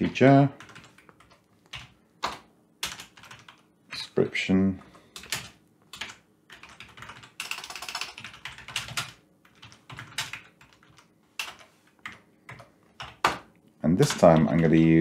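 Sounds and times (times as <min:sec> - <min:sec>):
typing on computer keyboard: 0:00.6 - 0:03.6, 0:05.2 - 0:14.7.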